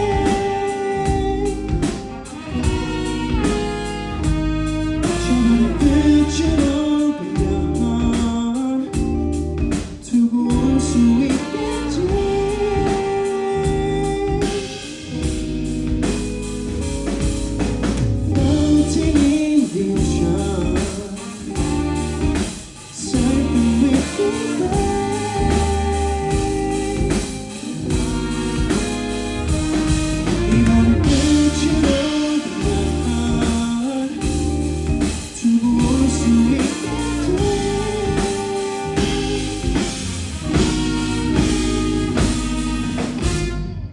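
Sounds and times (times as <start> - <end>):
live rock band playing: 0.0 - 43.9
sliding lead guitar melody: 0.0 - 43.9.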